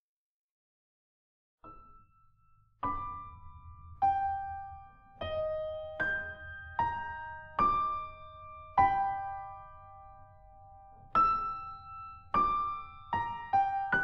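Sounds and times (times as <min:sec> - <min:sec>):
soft keyboard music: 0:01.7 - 0:14.0.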